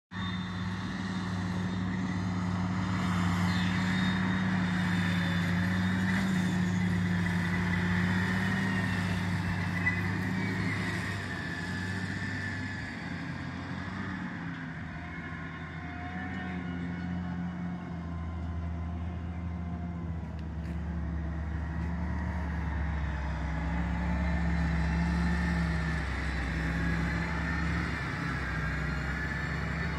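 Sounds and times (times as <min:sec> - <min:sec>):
tractor engine drone: 0:00.1 - 0:29.9.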